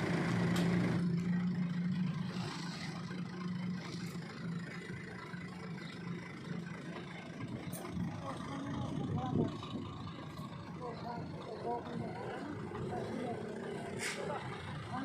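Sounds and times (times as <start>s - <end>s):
machine engine droning: 0.0s - 15.0s
outdoor noise: 0.0s - 15.0s.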